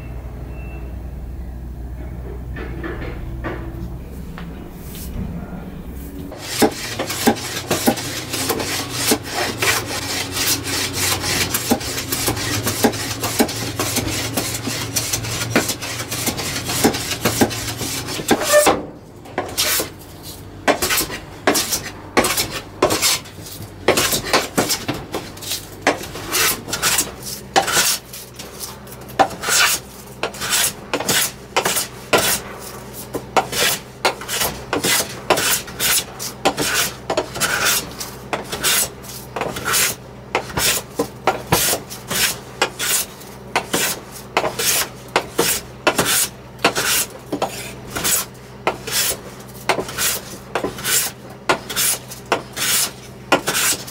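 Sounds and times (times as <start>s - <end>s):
hand plane scraping wood: 6.3s - 18.8s, 19.4s - 53.9s.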